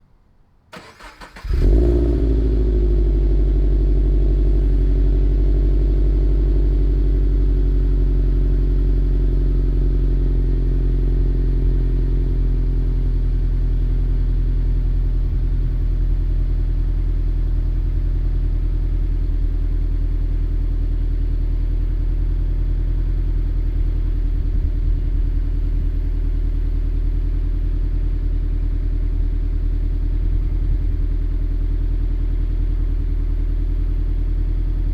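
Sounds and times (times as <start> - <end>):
car engine starting and idling: 0.7 - 34.9.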